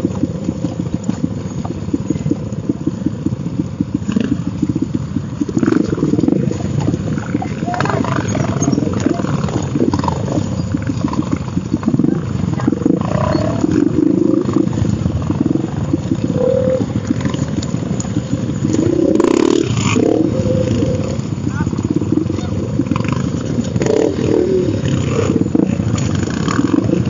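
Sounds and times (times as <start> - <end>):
dirt bike engines running: 0.0 - 27.0.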